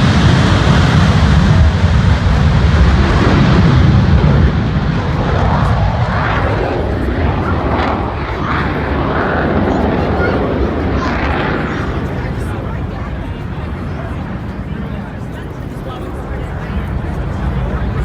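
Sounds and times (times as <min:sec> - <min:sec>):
jet aircraft roar: 0:00.0 - 0:18.0.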